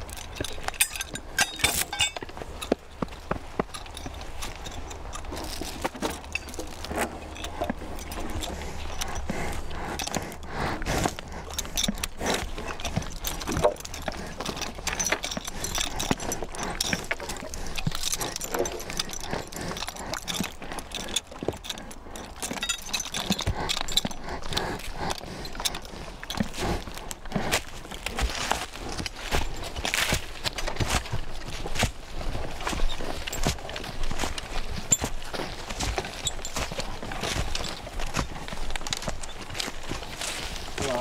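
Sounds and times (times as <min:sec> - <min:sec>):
chains and harness jangling: 0:00.0 - 0:41.0
horse hoofbeats: 0:00.0 - 0:41.0.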